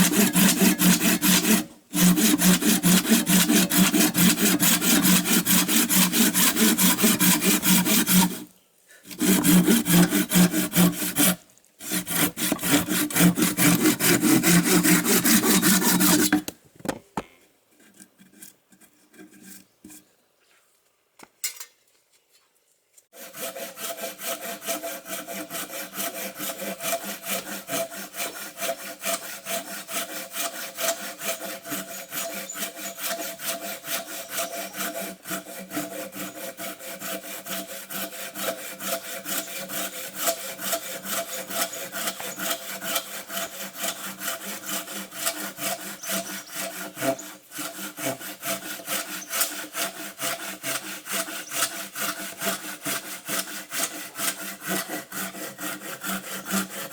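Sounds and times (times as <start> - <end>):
hand saw cutting wood: 0.0 - 8.5, 9.1 - 16.5, 17.8 - 20.1, 23.1 - 56.9.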